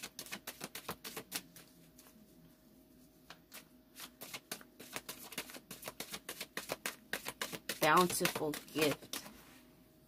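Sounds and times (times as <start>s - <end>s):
cards being shuffled: 0.0s - 2.2s, 3.4s - 9.3s.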